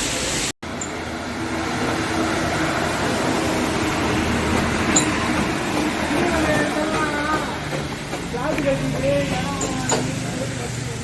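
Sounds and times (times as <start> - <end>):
road or water noise: 0.0 - 11.0
vehicle engine humming: 0.6 - 11.0.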